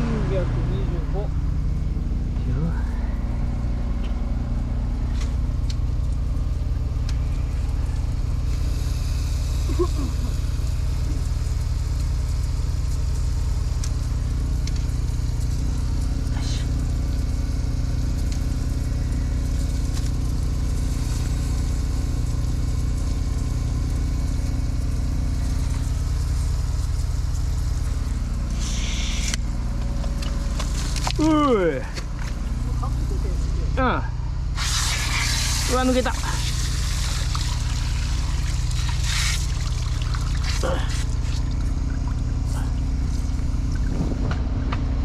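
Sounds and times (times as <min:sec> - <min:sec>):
engine idling: 0:00.0 - 0:45.0.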